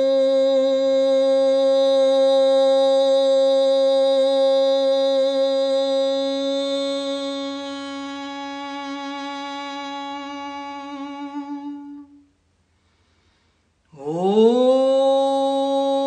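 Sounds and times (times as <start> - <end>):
woman chanting om: 0.0 - 12.4, 13.9 - 16.0.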